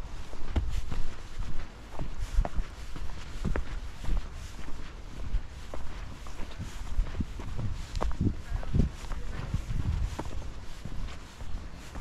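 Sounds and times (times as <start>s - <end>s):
footsteps on a trail: 0.0s - 12.0s.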